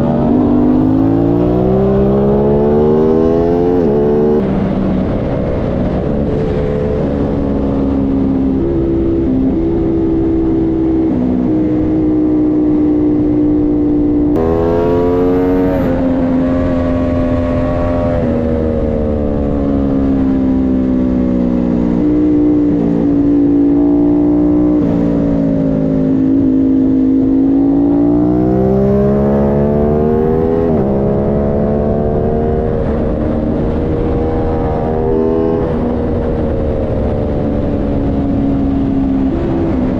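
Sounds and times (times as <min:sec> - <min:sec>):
motorcycle engine revving hard: 0:00.0 - 0:05.3, 0:05.9 - 0:39.9
wind noise: 0:00.0 - 0:39.9.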